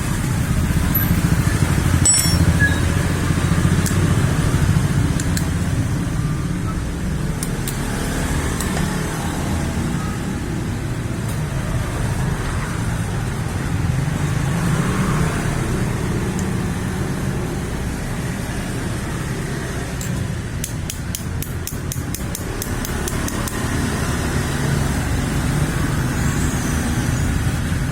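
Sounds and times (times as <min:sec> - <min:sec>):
road traffic rumbling: 0:00.0 - 0:27.9.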